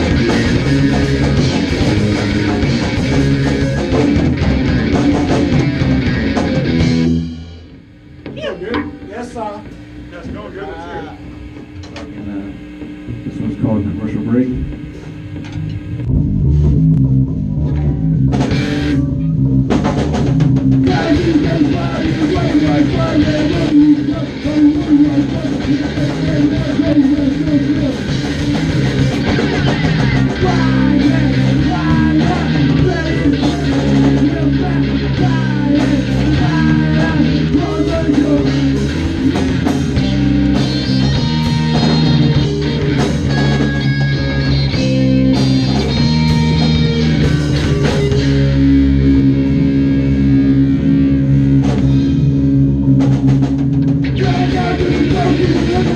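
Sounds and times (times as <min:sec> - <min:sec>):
drum kit: 0:00.0 - 0:55.9
electric bass: 0:00.0 - 0:55.9
electric guitar: 0:00.0 - 0:55.9.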